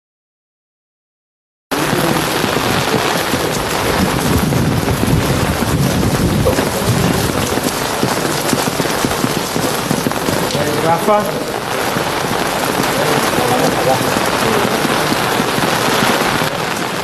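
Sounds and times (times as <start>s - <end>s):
crackling outdoor hiss: 1.7s - 17.0s.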